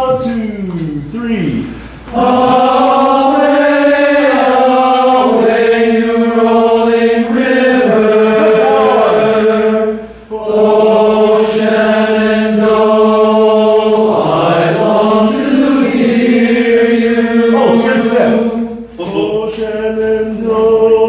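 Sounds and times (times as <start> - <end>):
men's barbershop chorus singing: 2.1 - 21.0.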